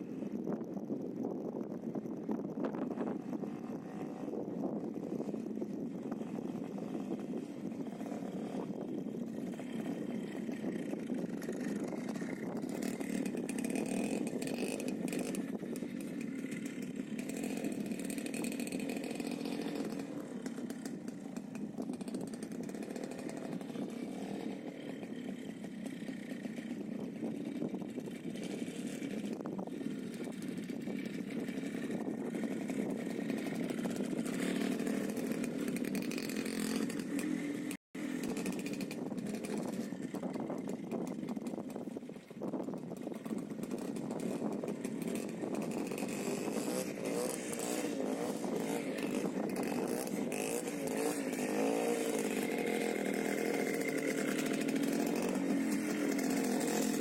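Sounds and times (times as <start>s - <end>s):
two-stroke motorcycle engine running: 0.0s - 57.0s.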